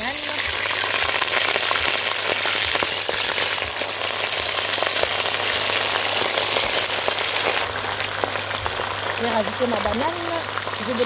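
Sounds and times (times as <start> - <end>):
oil sizzling and popping in pot: 0.0 - 11.0.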